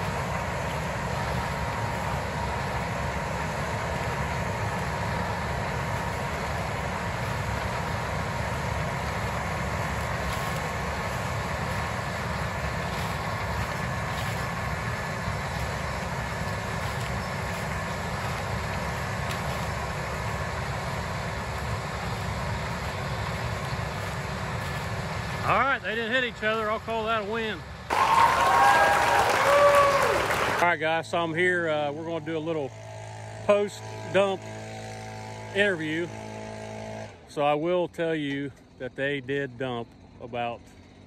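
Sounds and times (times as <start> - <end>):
drone of engines and machinery: 0.0 - 28.6, 29.2 - 41.0
faint steady whine: 0.0 - 41.0.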